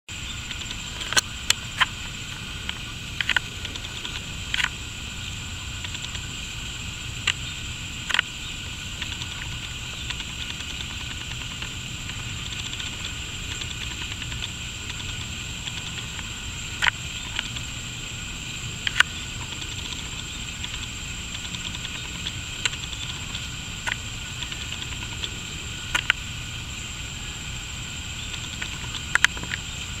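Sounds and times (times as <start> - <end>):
constant high hiss: 0.1 - 30.0
sharp clicks: 0.2 - 4.8, 5.8 - 6.3, 7.2 - 8.3, 8.9 - 17.7, 18.8 - 26.2, 28.2 - 29.8.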